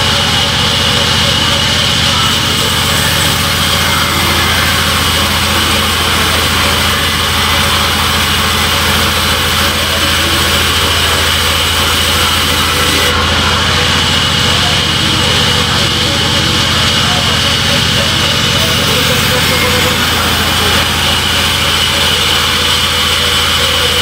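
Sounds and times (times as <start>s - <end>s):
band saw mechanical drone: 0.0s - 24.0s.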